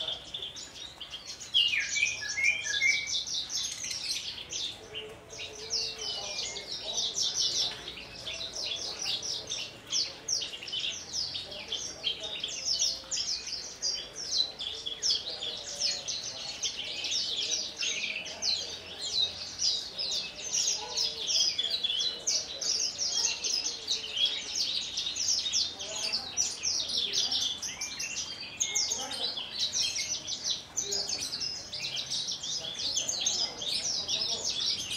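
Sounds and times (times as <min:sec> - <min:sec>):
lark singing chirps and trills: 0:00.0 - 0:34.9.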